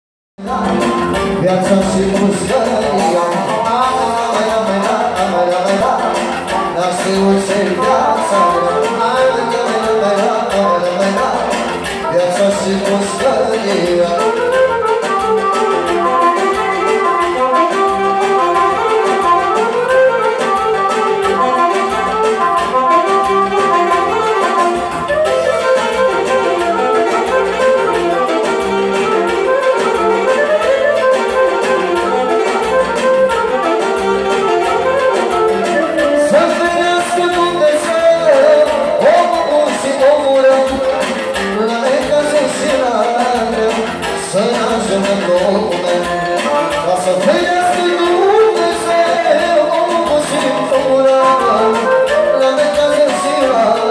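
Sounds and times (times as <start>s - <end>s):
man singing into a microphone: 0.4s - 53.9s
saxophone and accordion melody: 0.4s - 53.9s.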